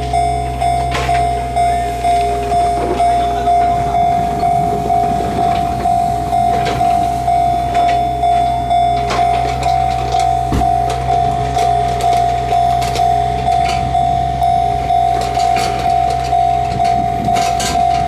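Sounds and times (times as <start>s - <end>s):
level-crossing warning bell ringing: 0.0s - 18.0s.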